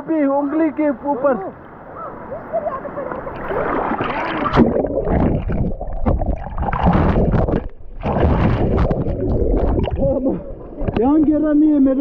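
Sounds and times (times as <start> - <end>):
water splashing and sloshing: 1.6 - 11.5.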